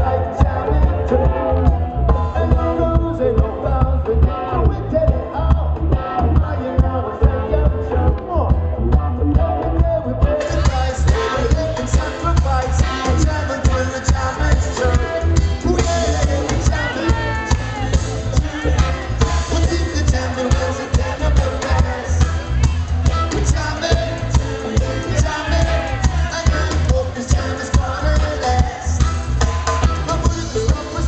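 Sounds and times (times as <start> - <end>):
heavy pulsing bass line: 0.0 - 31.0
lead singer singing: 0.0 - 31.0
live reggae band playing: 0.0 - 31.0.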